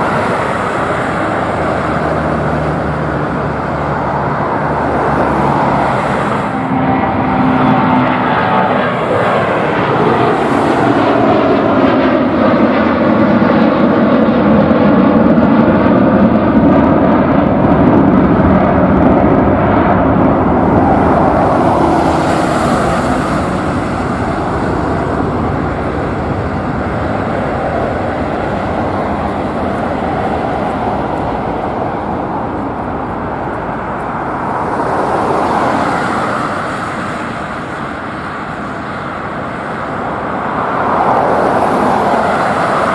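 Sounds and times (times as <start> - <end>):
jet engines roaring overhead: 0.0 - 42.9.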